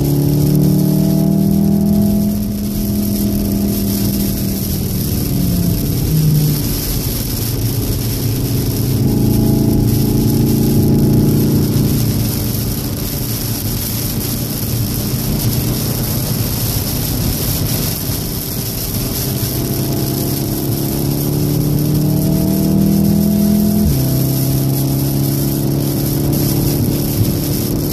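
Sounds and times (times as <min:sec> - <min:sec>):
car engine from inside cabin: 0:00.0 - 0:27.9
tyres hissing on wet track: 0:00.0 - 0:27.9.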